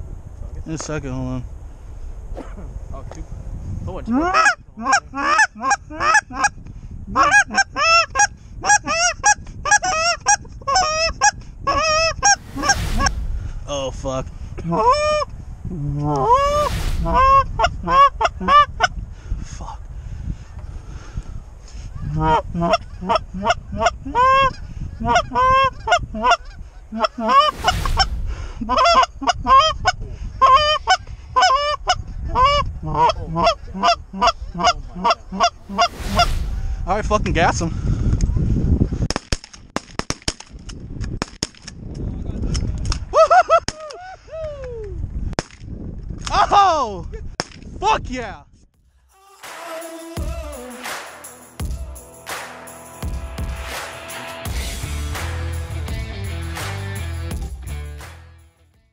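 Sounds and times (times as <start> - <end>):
wind noise: 0.0 - 48.7.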